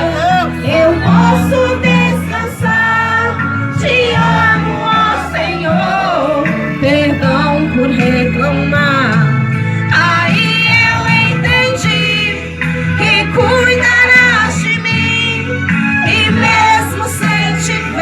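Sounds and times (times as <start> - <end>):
instrumental backing: 0.0 - 18.0
woman singing gospel song: 0.0 - 18.0.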